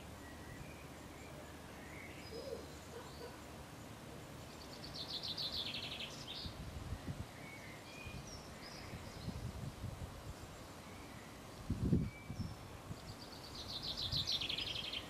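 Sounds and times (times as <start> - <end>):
birds chirping: 0.0 - 9.6, 10.2 - 15.0
outdoor background noise: 0.0 - 15.0.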